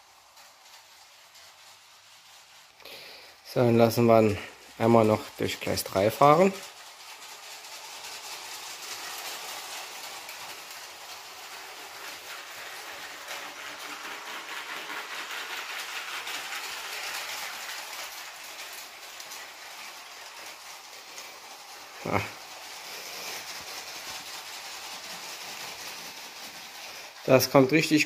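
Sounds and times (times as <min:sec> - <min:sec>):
toy train wheels rattling on track: 0:00.0 - 0:28.0.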